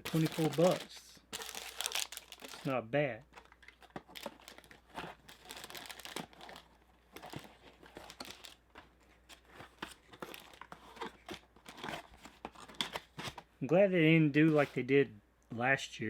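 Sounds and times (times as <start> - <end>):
packaging crinkling and rustling: 0.0 - 2.7, 3.3 - 13.5.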